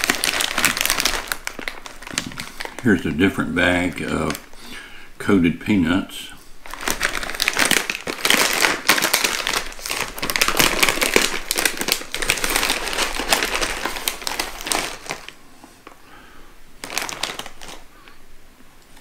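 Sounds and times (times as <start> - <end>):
plastic snack bag crinkling: 0.0 - 4.6, 6.6 - 16.1, 16.8 - 18.2.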